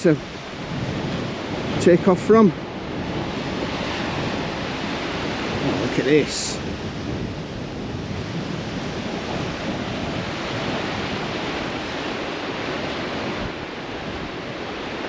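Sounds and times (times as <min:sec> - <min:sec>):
sea surf breaking on rocks: 0:00.0 - 0:15.0
wind buffeting microphone: 0:00.0 - 0:15.0.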